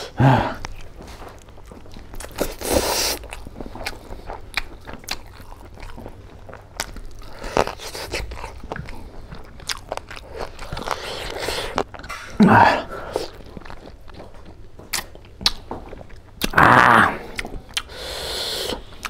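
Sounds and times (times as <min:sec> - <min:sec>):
crunchy chewing clicks: 0:00.5 - 0:19.0
chewing and mouth smacks: 0:00.6 - 0:16.6, 0:17.2 - 0:19.0.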